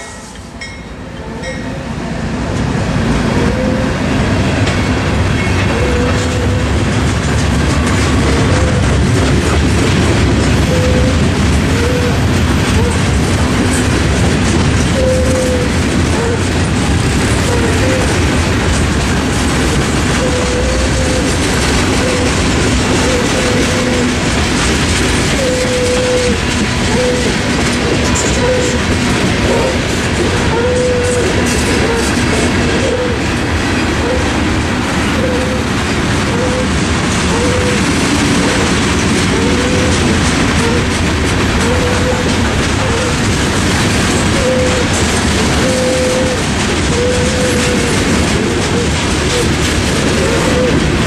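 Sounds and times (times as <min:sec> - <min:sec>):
train wheels rumbling on rails: 0:00.0 - 0:51.0
wheels squealing: 0:07.8 - 0:33.3, 0:35.1 - 0:51.0.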